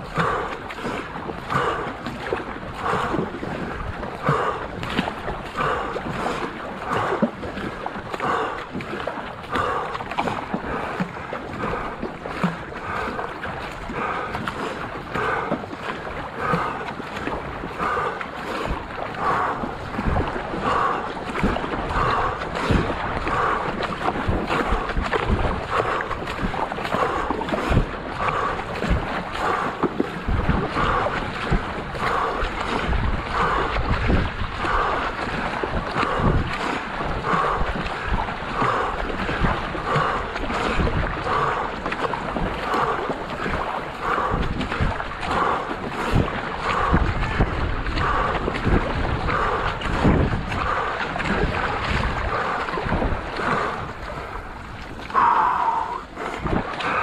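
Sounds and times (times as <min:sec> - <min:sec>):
paddle strokes splashing water: 0:00.0 - 0:57.0
water washing against hull: 0:00.0 - 0:57.0
wind rumbling on microphone: 0:00.0 - 0:57.0.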